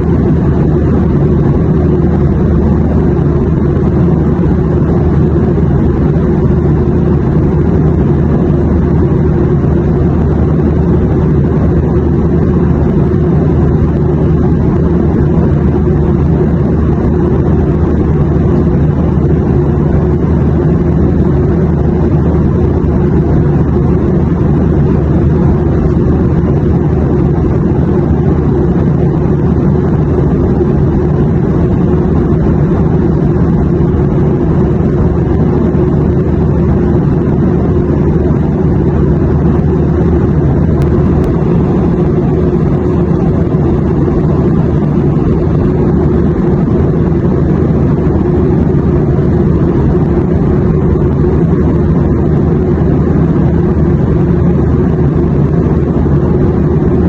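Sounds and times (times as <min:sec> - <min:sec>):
airliner cabin engine drone: 0:00.0 - 0:57.0.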